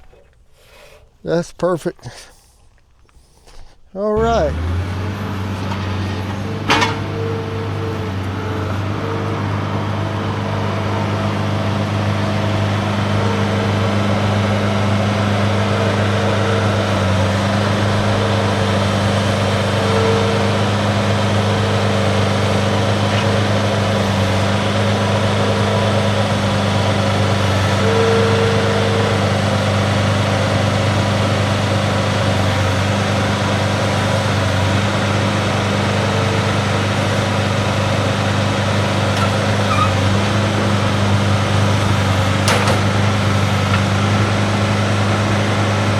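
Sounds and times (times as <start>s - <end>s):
engine running steadily: 4.2s - 45.9s.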